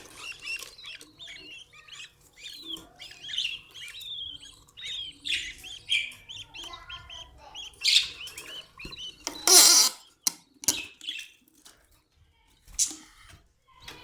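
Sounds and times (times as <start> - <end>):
budgerigars chirping: 0.0 - 11.3.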